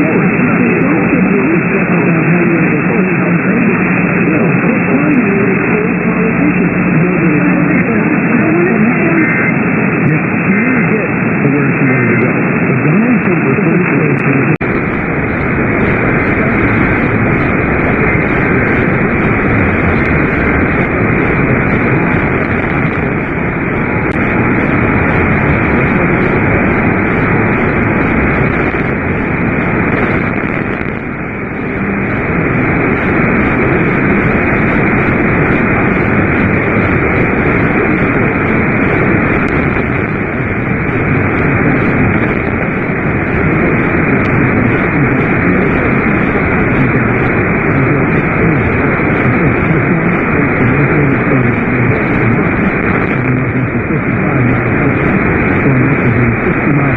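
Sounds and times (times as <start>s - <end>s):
radio static hiss: 0.0s - 56.9s.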